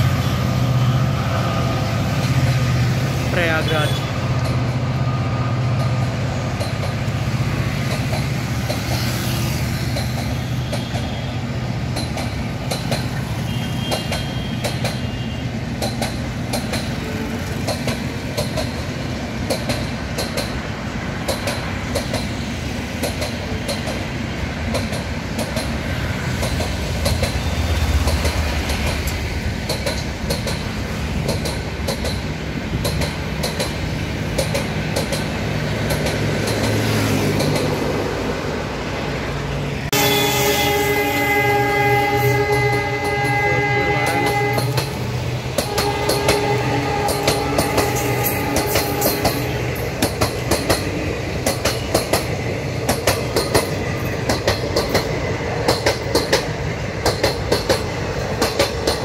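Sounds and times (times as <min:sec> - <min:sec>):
train rolling past: 0:00.0 - 0:59.0
train wheels clicking on rail joints: 0:01.9 - 0:05.0, 0:05.6 - 0:38.3, 0:41.3 - 0:59.0.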